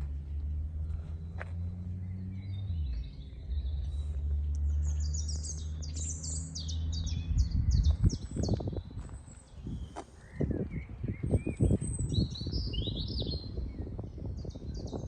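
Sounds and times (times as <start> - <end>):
low rumbling: 0.0 - 15.0.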